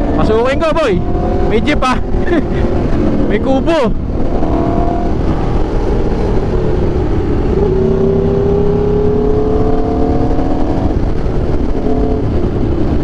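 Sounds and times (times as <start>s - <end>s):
motorcycle engine cruising: 0.0s - 13.0s
wind noise: 0.0s - 13.0s.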